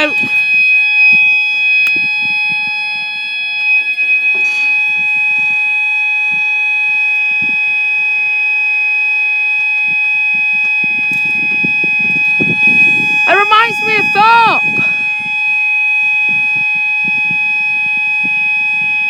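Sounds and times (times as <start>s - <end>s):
level crossing alarm steady tone: 0.0s - 16.6s.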